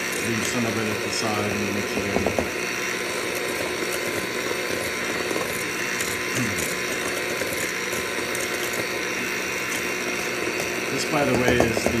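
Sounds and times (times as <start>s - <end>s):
electric hand mixer whipping: 0.0s - 12.0s.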